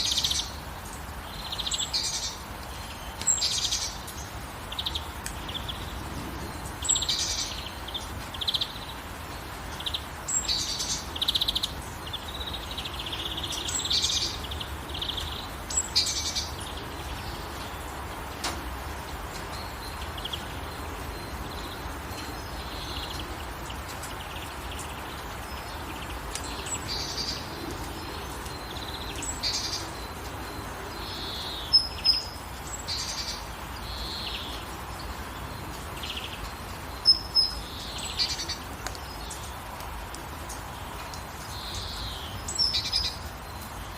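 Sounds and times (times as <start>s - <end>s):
birds chirping: 0.0s - 43.9s
light rain hiss: 0.0s - 43.9s.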